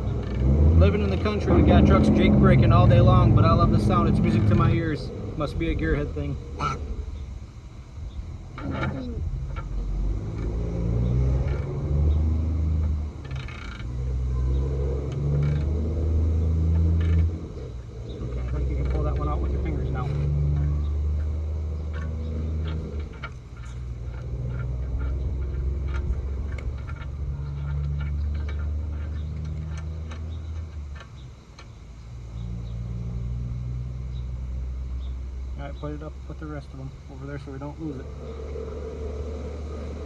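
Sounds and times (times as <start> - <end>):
diesel truck engine rumble: 0.0 - 40.0.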